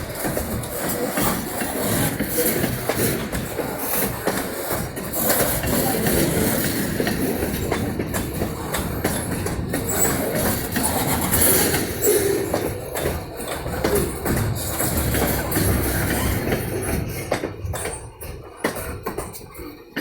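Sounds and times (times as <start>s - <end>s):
freight train wheels clattering: 0.0s - 20.0s.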